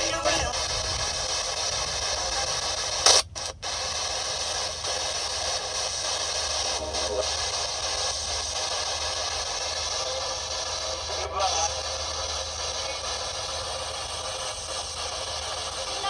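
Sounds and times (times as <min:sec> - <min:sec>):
radio blip: 0:00.0 - 0:16.0
radio static hiss: 0:00.0 - 0:16.0.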